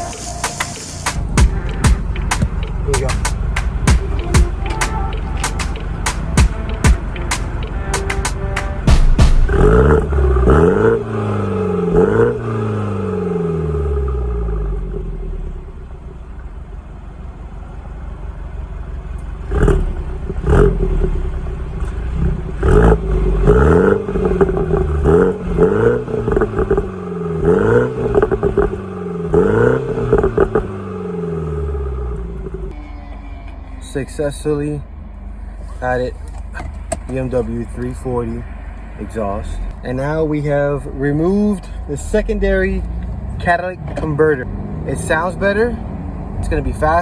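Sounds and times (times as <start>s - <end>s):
car engine revving: 0.0s - 32.8s, 33.8s - 47.0s.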